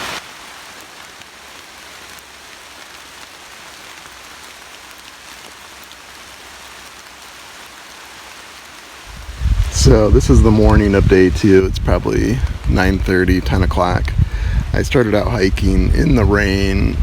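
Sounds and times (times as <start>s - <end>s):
rain falling in forest: 0.0s - 17.0s.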